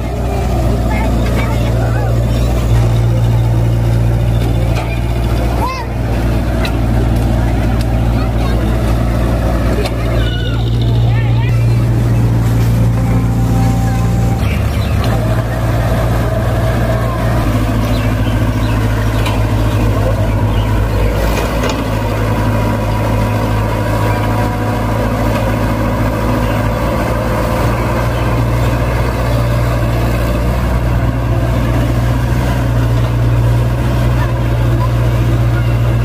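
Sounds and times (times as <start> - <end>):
excavator diesel engines under load: 0.0 - 36.0.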